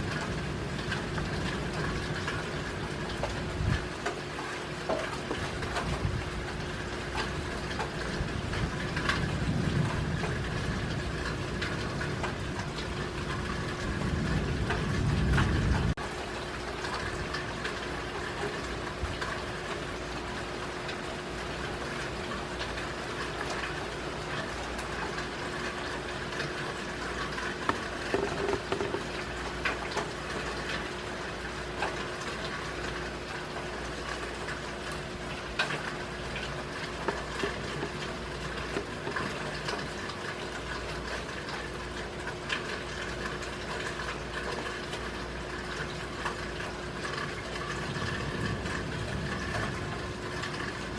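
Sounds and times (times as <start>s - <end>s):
raindrops tapping close by: 0.0s - 50.9s
steady rain falling: 0.0s - 50.9s.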